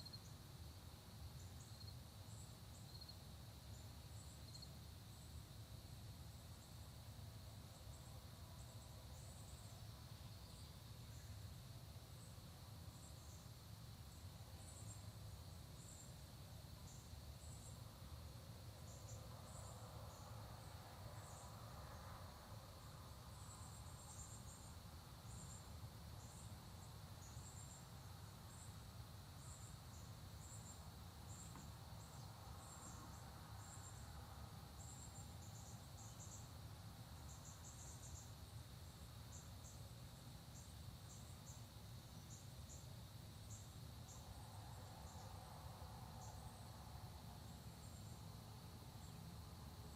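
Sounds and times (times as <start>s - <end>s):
crickets chirring: 0.0s - 49.9s.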